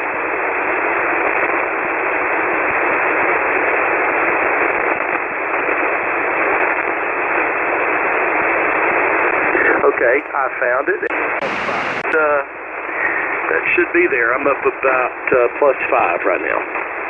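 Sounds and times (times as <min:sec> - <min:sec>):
radio band noise hiss: 0:00.0 - 0:17.0.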